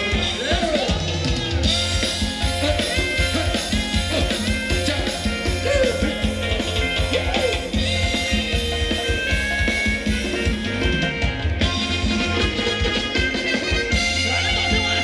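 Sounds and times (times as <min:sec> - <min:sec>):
live band playing dance music: 0:00.0 - 0:15.0.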